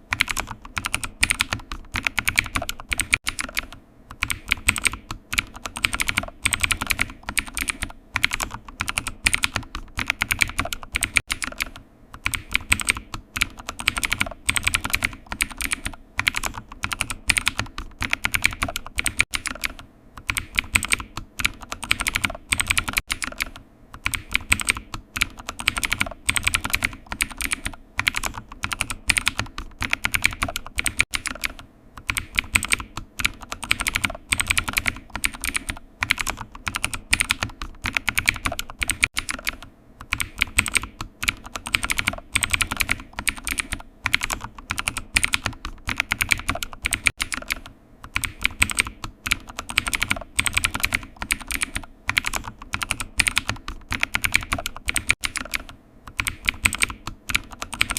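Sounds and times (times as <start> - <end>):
keyboard typing: 0.0 - 57.9.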